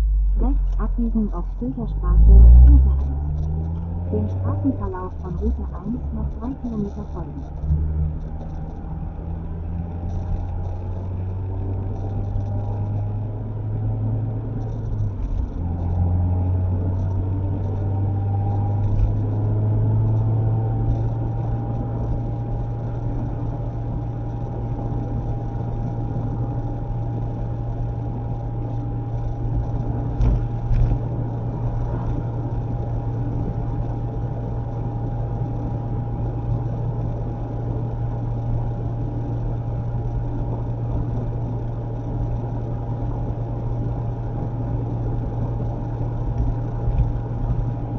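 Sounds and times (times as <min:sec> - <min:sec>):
car engine and tyre drone: 0:00.0 - 0:47.9
engine whine accelerating: 0:00.0 - 0:47.9.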